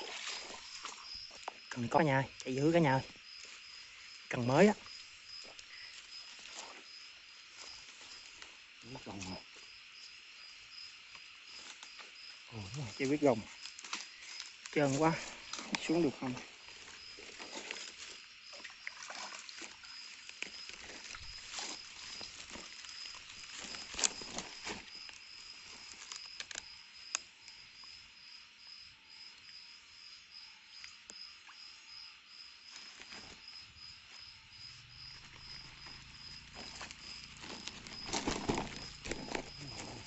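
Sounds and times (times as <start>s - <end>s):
rustling in undergrowth: 0.0s - 1.9s, 2.9s - 18.5s, 19.4s - 27.2s, 32.6s - 40.0s
insect pulsing trill: 0.0s - 40.0s.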